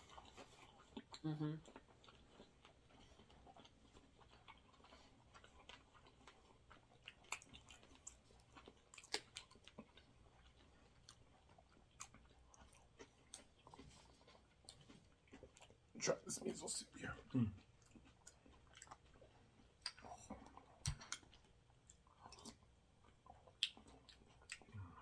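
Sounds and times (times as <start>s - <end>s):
faint chewing: 0.0s - 25.0s.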